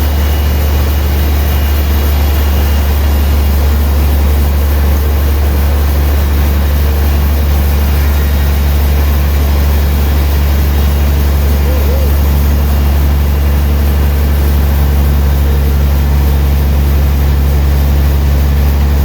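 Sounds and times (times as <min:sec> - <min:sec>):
sawmill engine droning: 0:00.0 - 0:19.0.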